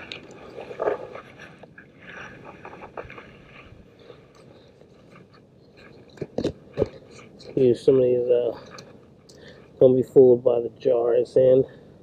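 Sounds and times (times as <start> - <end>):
rustling of handling: 0.0 - 9.8.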